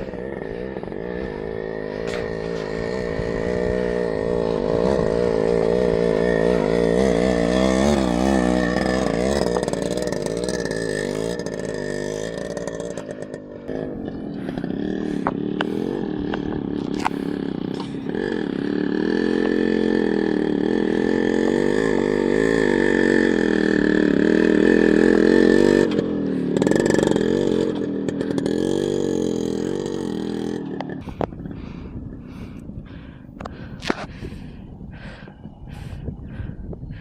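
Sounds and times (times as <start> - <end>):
two-stroke motorcycle engine revving: 0.0 - 37.0.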